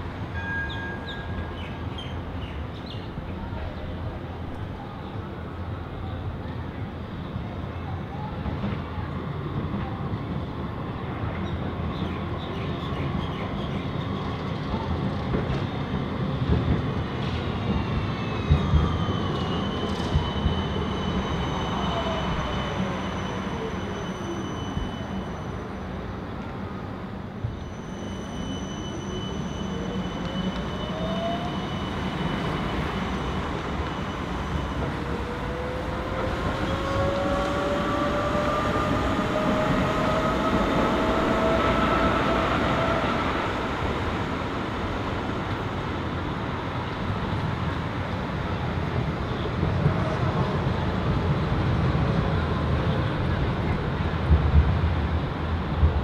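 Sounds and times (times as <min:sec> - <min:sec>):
tram running on rails: 0:00.0 - 0:56.0.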